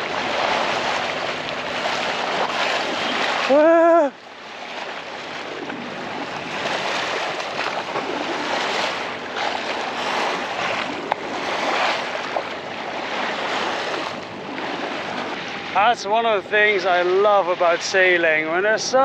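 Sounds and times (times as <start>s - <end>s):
water rushing against a hull: 0.0s - 19.0s.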